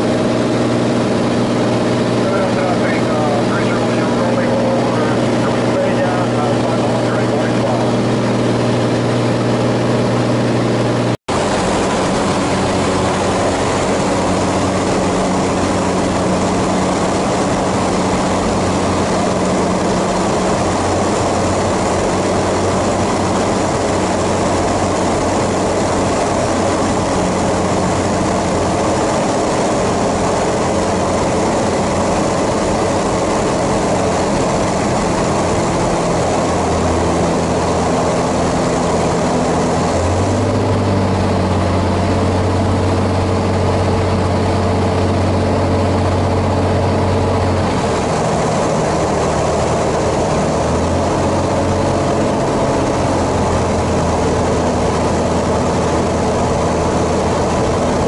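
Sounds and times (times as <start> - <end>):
airflow noise: 0.0 - 58.0
light aircraft engine drone: 0.0 - 58.0.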